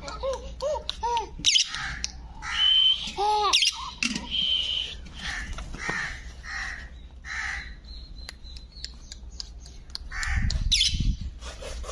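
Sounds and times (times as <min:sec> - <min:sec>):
harsh bird calls: 0:01.4 - 0:11.3.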